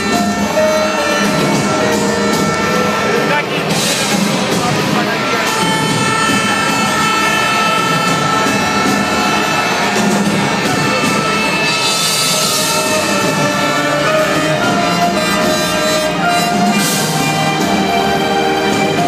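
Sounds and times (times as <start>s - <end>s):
live band playing loudly: 0.0s - 19.0s.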